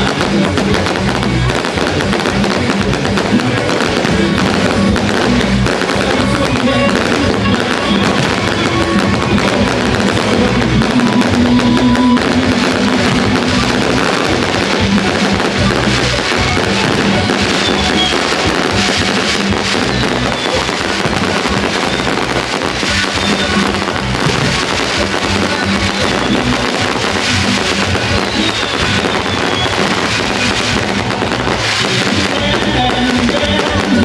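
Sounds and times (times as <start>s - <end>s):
fireworks crackling and popping: 0.0s - 34.0s
music playing: 0.0s - 34.0s.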